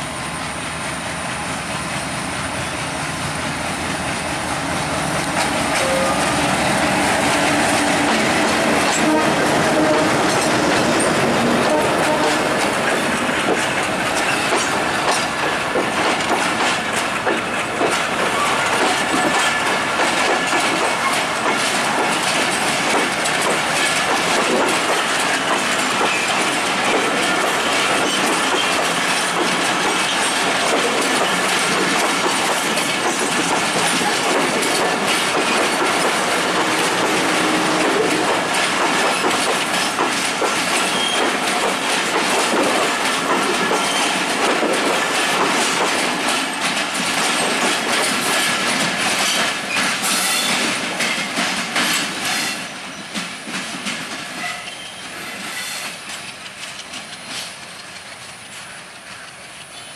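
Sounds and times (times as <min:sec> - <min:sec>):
train rumble: 0:00.0 - 0:59.9
train wheels clickety-clack: 0:00.0 - 0:59.9.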